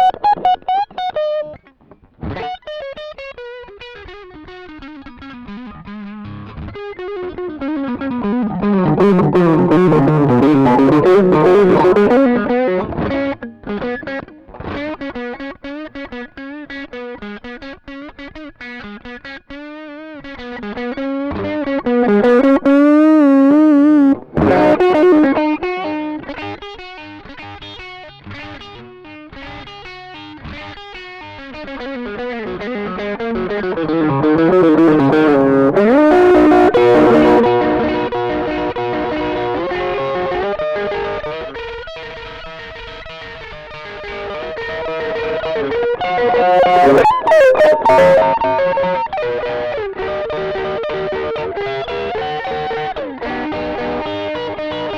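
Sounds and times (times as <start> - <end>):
distorted electric guitar: 0.0 - 54.9.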